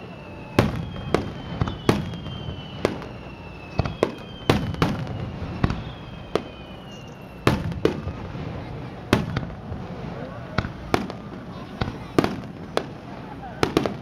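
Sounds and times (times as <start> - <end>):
high descending whistles: 0.0 - 11.6
fireworks exploding: 0.0 - 14.0.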